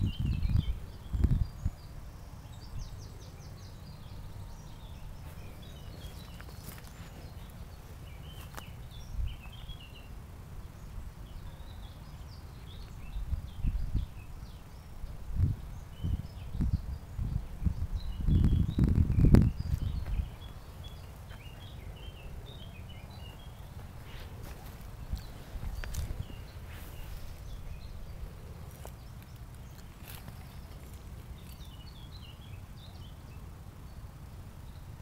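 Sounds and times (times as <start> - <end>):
small birds chirping: 0.0 - 35.0
steady low rumble: 0.0 - 35.0.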